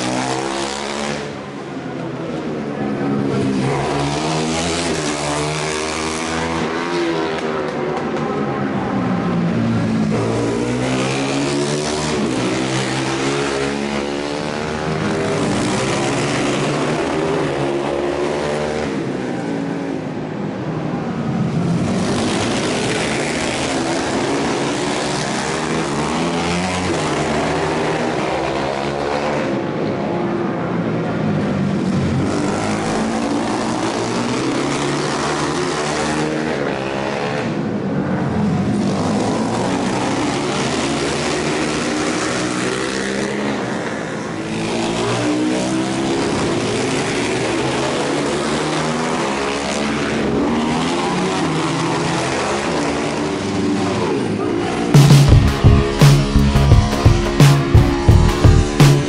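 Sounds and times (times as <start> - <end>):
racing motorcycles passing: 0.0 - 59.0.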